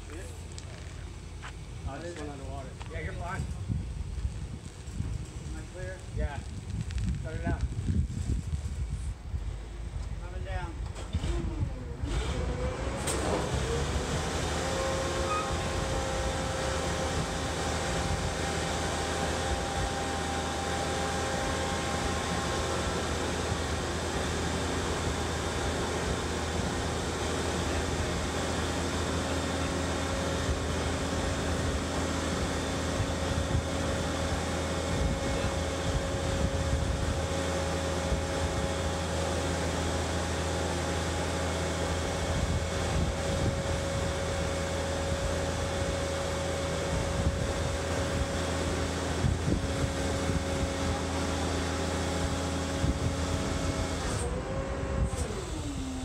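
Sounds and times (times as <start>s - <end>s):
hydraulic lift engine humming: 10.8s - 56.0s.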